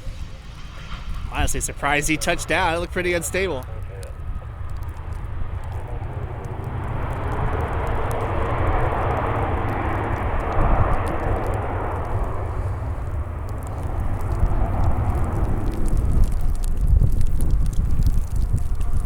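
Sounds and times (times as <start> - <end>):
jet engines roaring: 0.0 - 19.0
wind rumble on microphone: 0.0 - 19.0.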